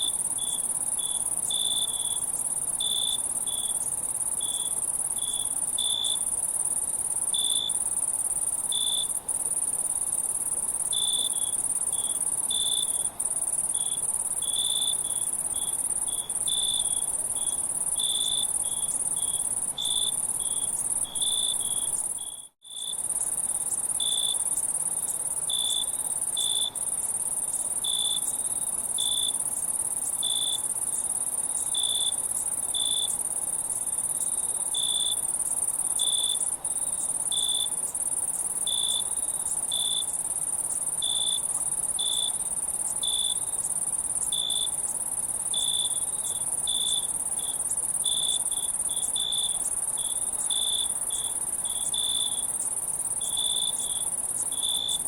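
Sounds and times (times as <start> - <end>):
cricket chirps: 0.0 - 55.0
crickets trilling: 0.0 - 55.0.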